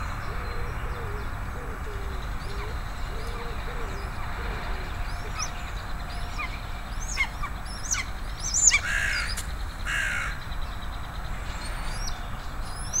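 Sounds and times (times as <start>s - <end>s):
bird chirps: 0.0s - 13.0s
harsh screeching bird calls: 0.0s - 13.0s.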